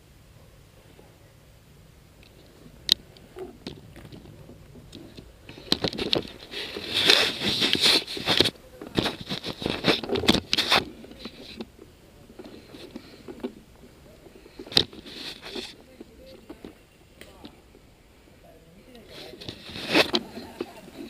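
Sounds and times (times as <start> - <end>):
rustling and crunching undergrowth: 2.2 - 21.0.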